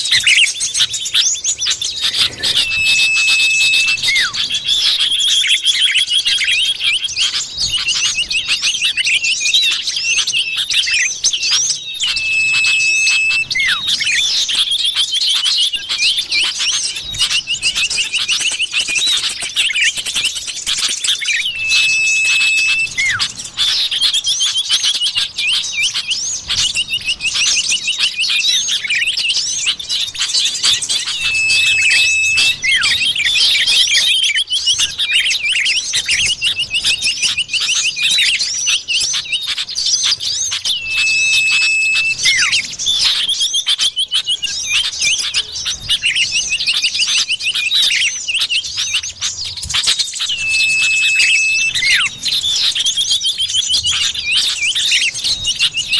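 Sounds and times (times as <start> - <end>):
bird twittering and trills: 0.0 - 55.9
long level bird whistle: 0.0 - 55.9.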